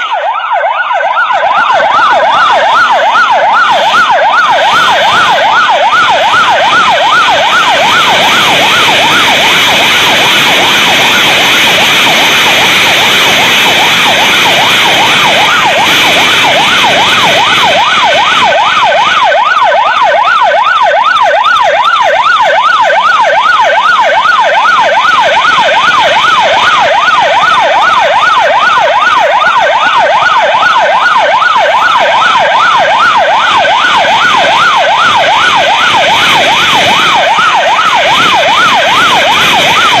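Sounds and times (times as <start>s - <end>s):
police siren yelping: 0.0s - 40.0s
steady rushing noise: 0.9s - 20.4s, 21.5s - 40.0s.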